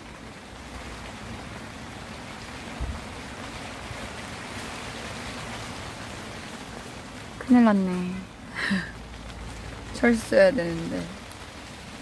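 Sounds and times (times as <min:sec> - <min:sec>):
hail and rain falling: 0:00.0 - 0:12.0.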